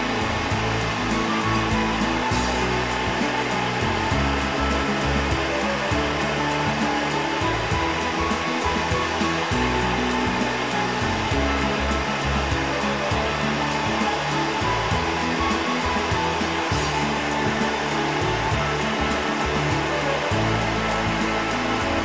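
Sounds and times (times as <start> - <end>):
background music: 0.0 - 22.0
burner flame roaring: 0.0 - 22.0.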